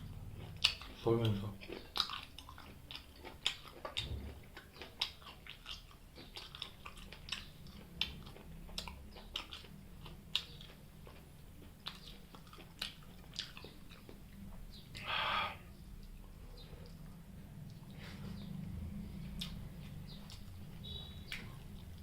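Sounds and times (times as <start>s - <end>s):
chewing fried food: 0.0s - 22.0s.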